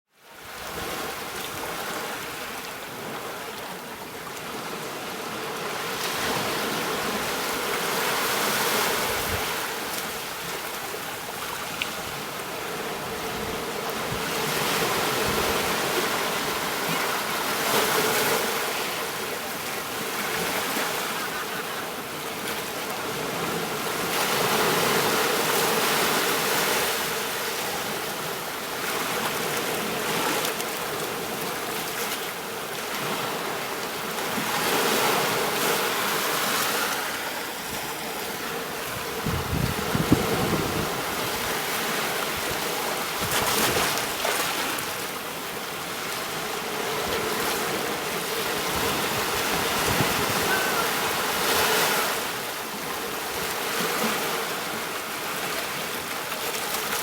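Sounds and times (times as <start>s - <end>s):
sea waves washing onto beach: 0.5s - 57.0s.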